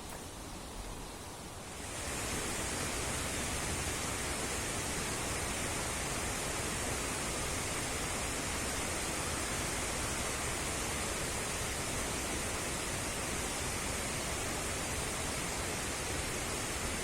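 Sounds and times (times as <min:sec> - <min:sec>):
waterfall rushing: 0:01.8 - 0:17.0.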